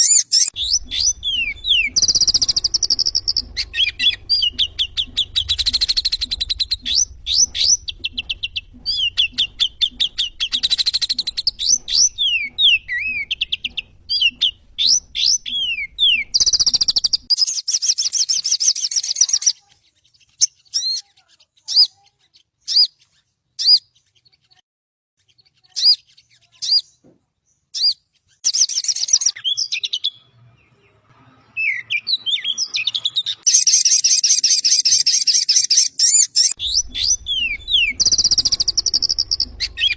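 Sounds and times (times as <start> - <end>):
bird chirping and chattering: 0.0 - 24.6, 25.2 - 39.9.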